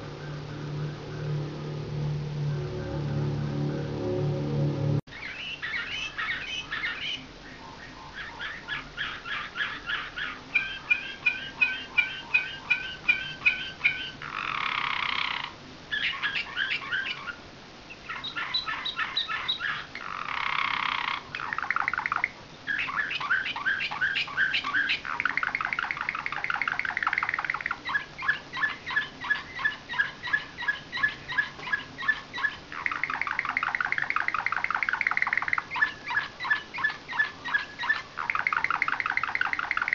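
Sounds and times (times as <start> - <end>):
canary singing trills: 5.1 - 39.9.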